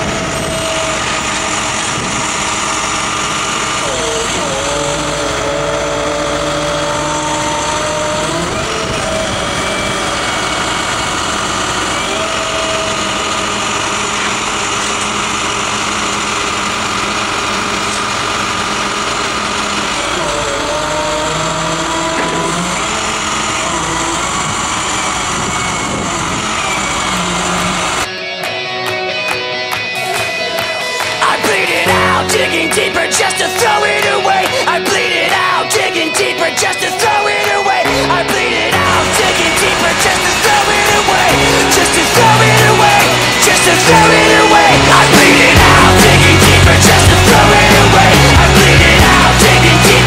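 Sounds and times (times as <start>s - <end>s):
hydraulic whine rising in pitch: 0.0s - 28.2s, 30.5s - 50.0s
truck engine running: 0.0s - 50.0s.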